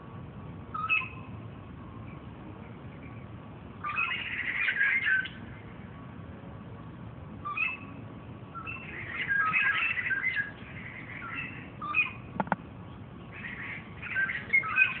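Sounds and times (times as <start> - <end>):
songbirds chirping: 0.1 - 15.0.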